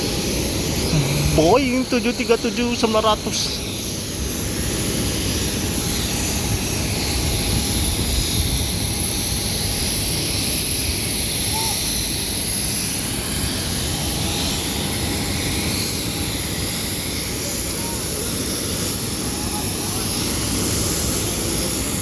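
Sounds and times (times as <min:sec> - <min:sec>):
jet airliner roar and whine: 0:00.0 - 0:22.0.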